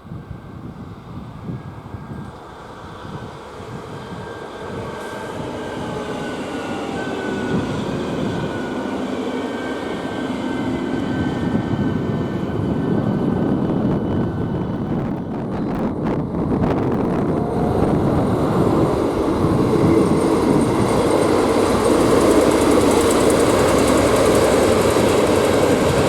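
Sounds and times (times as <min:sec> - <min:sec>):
train approaching: 0:00.0 - 0:26.0
faint tones sinking in pitch: 0:00.9 - 0:26.0.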